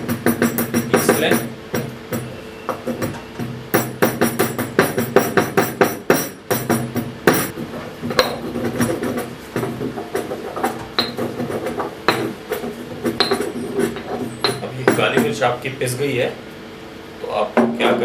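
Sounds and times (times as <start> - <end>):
peppercorns being pounded: 0.0 - 15.5.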